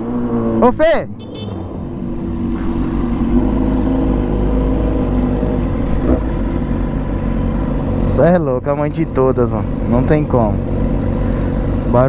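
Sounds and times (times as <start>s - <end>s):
motorcycle engine running: 1.2s - 12.0s.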